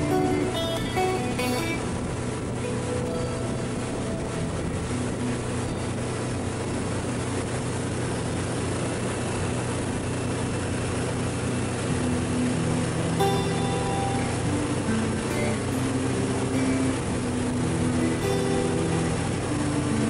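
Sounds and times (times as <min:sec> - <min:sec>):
motorboat engine running: 0:00.0 - 0:20.0.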